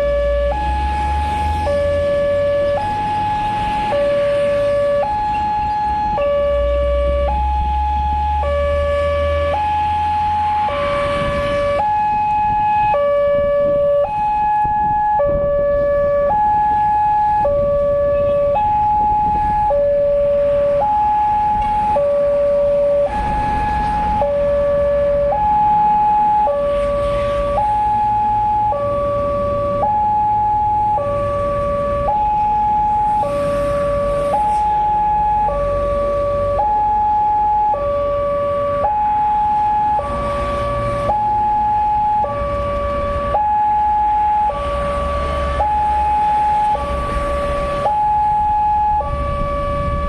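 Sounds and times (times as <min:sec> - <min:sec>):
two-tone electronic warning alarm: 0:00.0 - 0:50.0.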